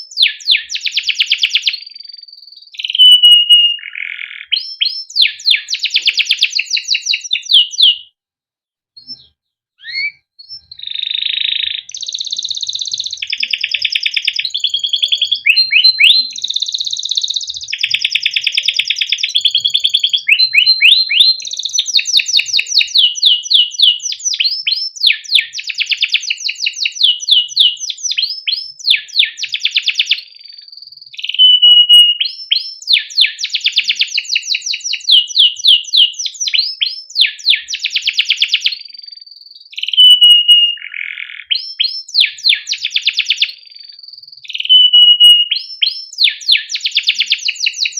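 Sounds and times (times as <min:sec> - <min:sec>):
canary singing trills: 0:00.0 - 0:08.2, 0:09.0 - 0:47.9.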